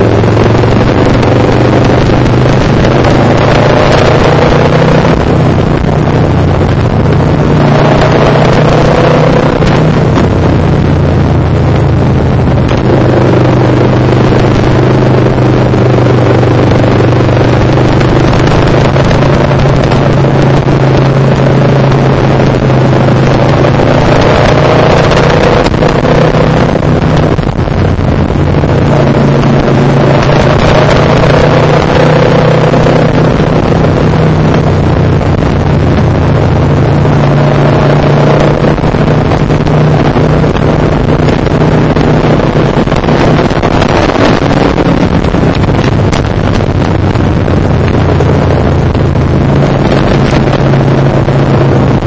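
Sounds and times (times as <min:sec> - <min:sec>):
motorcycle engine cruising: 0:00.0 - 0:52.0
wind rushing over microphone: 0:00.0 - 0:52.0.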